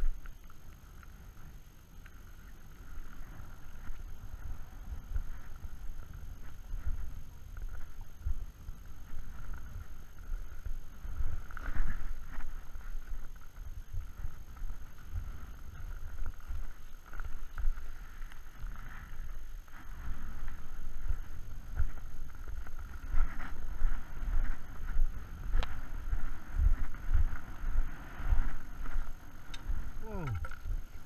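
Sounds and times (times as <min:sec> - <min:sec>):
footsteps crunching on snow: 0:02.2 - 0:31.0
wind buffeting microphone: 0:02.3 - 0:31.0.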